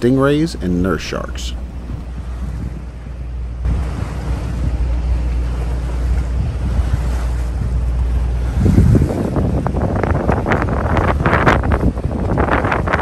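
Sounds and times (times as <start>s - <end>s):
steady low rumble: 0.0s - 13.0s
water rushing past hull: 0.0s - 13.0s
wind buffeting microphone: 0.0s - 13.0s.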